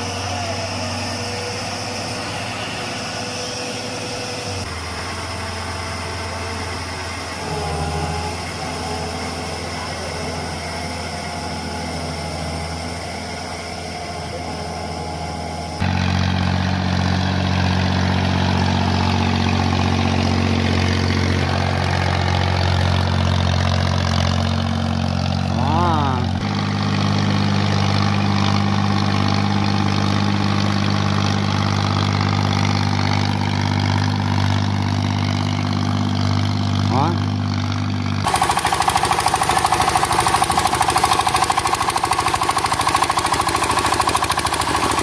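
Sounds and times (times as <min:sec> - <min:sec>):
walking tractor engines running: 0:00.0 - 0:45.0.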